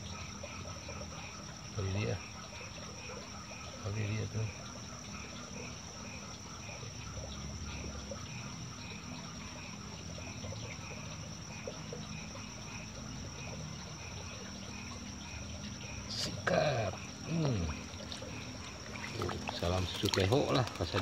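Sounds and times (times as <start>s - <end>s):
frogs calling: 0.0s - 21.0s
high insect trill: 0.0s - 21.0s.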